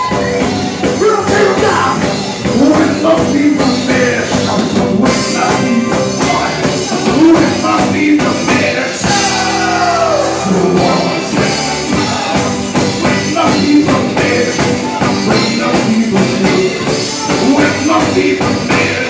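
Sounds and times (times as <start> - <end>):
live band playing gospel song: 0.0 - 19.0
person singing: 0.0 - 19.0
steady drum beat: 0.0 - 19.0.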